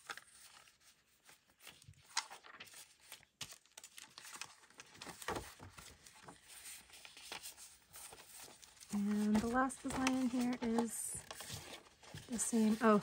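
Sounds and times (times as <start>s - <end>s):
paper rustling and sliding: 0.0s - 13.0s.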